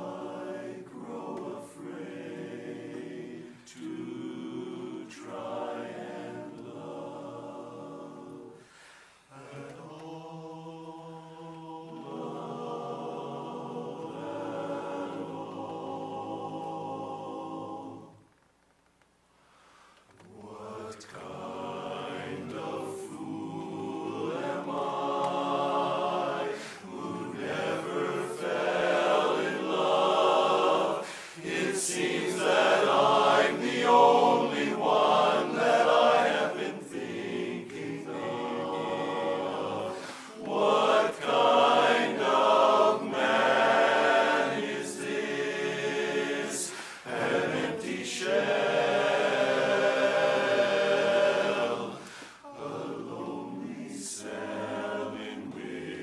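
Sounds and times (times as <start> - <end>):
men's chorus singing a cappella: 0.0 - 18.2, 20.3 - 56.0.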